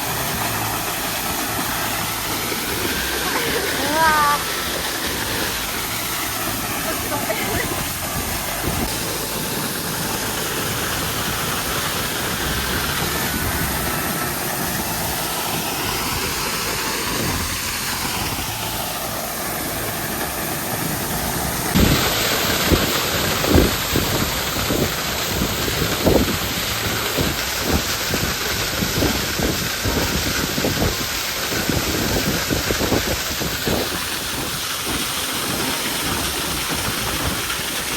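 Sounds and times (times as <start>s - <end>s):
waterfall pouring: 0.0s - 37.9s.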